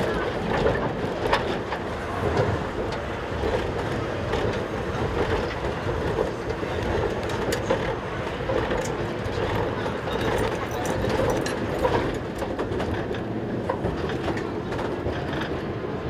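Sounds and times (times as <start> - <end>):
wheels rumbling on rails: 0.0 - 16.0.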